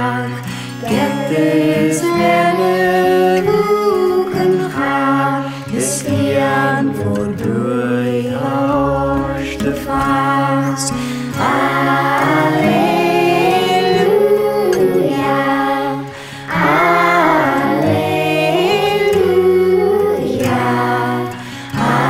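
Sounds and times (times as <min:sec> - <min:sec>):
acoustic guitar: 0:00.0 - 0:22.0
children's choir singing: 0:00.0 - 0:22.0
woman singing: 0:00.0 - 0:22.0.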